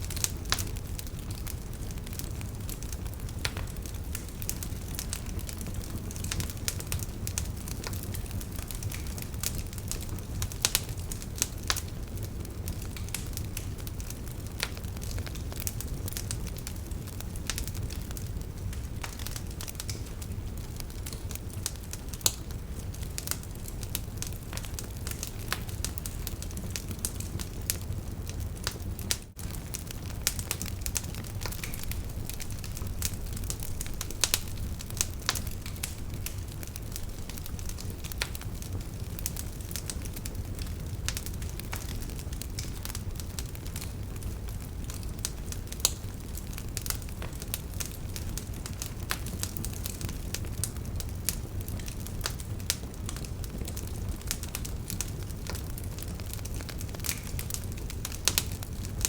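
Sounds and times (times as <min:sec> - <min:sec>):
burning wood crackling and popping: 0:00.0 - 0:59.0
flames rumbling: 0:00.0 - 0:59.0.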